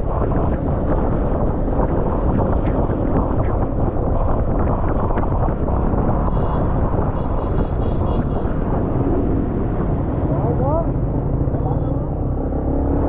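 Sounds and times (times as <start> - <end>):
road noise: 0.0 - 13.0
vehicle engine: 0.0 - 13.0
wind buffeting microphone: 0.0 - 13.0.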